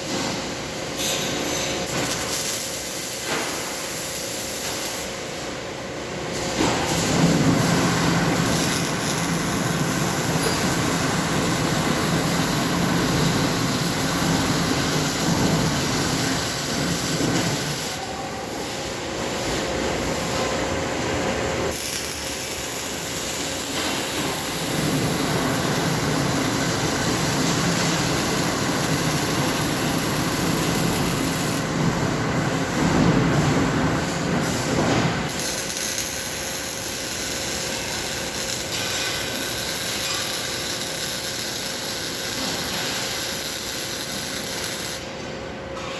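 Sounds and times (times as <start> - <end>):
welding hiss and rumble: 0.0 - 45.9.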